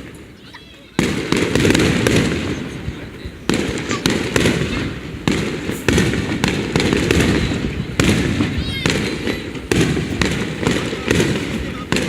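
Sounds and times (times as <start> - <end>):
firework booms: 0.0 - 12.0
firework crackling: 0.0 - 12.0.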